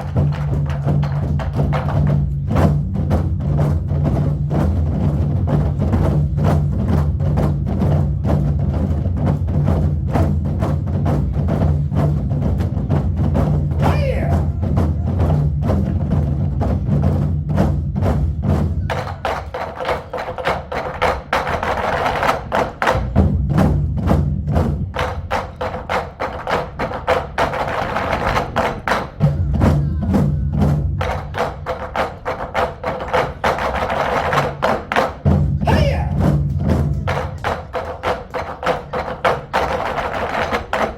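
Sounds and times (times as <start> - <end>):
group drumming: 0.0 - 40.9.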